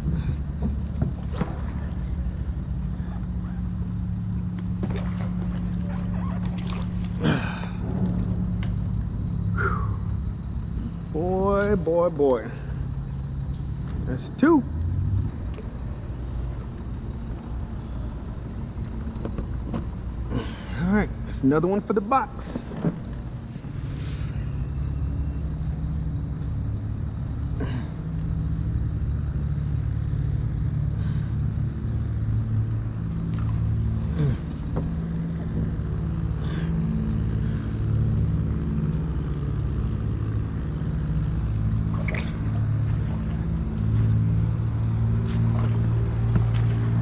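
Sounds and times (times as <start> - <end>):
distant race car engines: 0.0 - 47.0.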